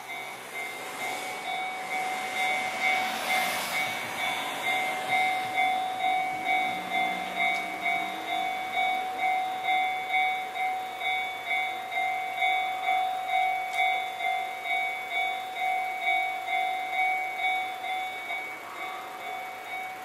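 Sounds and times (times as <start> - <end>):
level crossing warning bells: 0.0 - 20.0.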